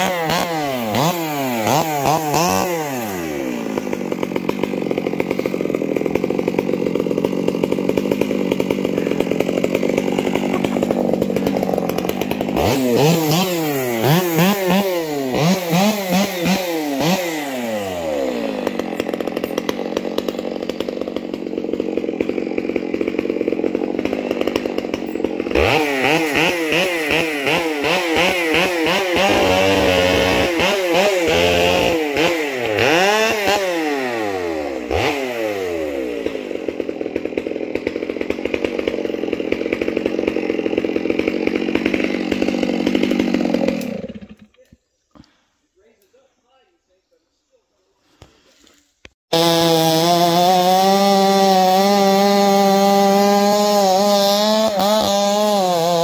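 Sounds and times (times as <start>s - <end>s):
chainsaw engine revving: 0.0s - 46.2s, 49.3s - 56.0s.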